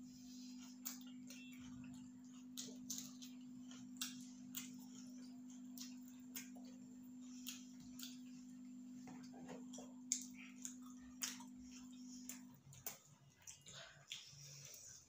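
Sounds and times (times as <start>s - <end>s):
wet chewing clicks: 0.2s - 15.0s.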